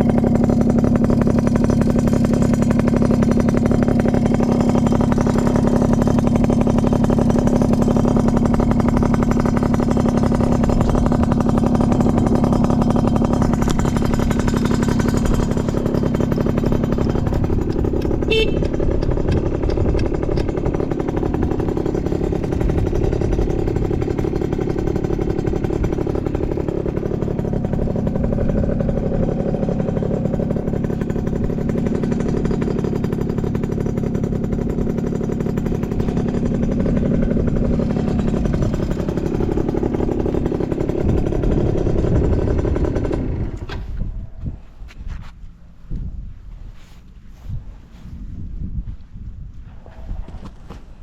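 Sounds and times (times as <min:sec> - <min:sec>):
two-stroke scooter engine running: 0:00.0 - 0:48.4.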